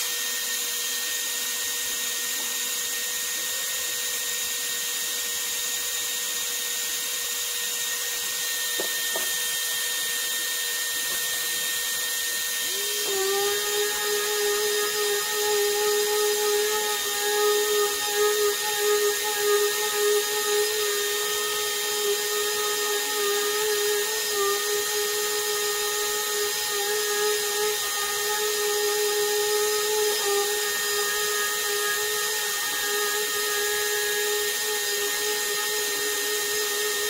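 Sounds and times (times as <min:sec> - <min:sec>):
dust extractor running: 0:00.0 - 0:37.0
orbital sander sanding wood: 0:00.0 - 0:37.0.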